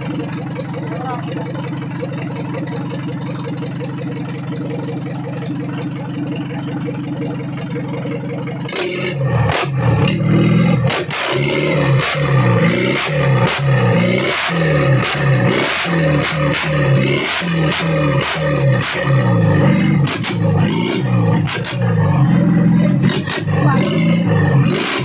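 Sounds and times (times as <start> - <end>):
diesel engine idling and revving: 0.0 - 25.0.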